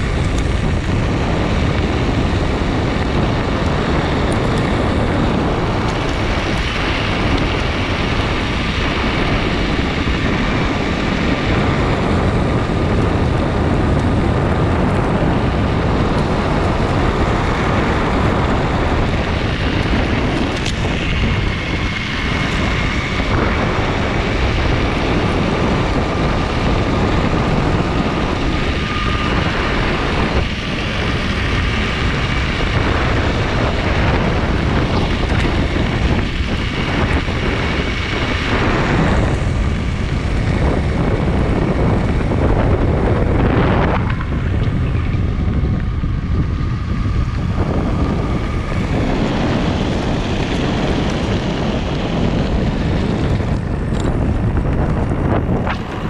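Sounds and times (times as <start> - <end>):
skateboard wheels rumbling on gravel: 0.0 - 56.0
wind on microphone: 0.0 - 56.0.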